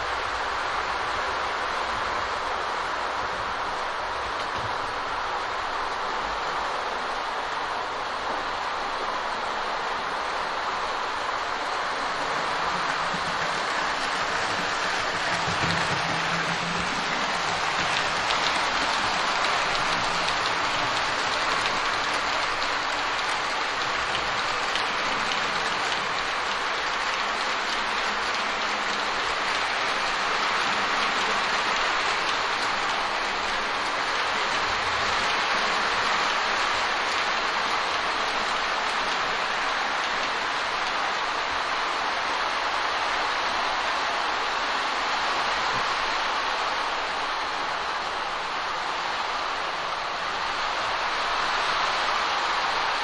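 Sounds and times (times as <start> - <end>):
model trains rolling on track: 0.0 - 53.0.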